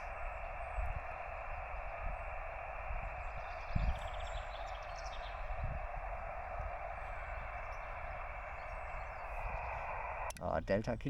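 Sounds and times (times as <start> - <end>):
radio band noise hissing: 0.0 - 10.4
faint bird chirps: 0.0 - 10.8.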